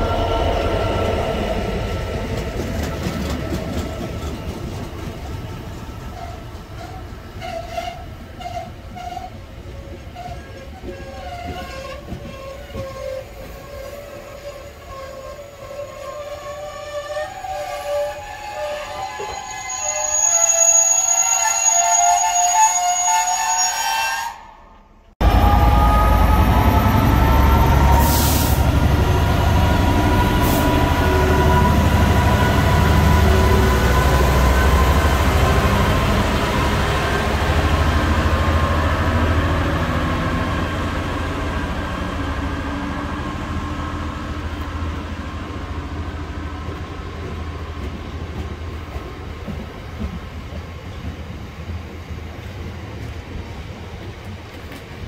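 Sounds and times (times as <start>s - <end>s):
diesel locomotive engine rumble: 0.0s - 21.0s, 24.3s - 55.0s.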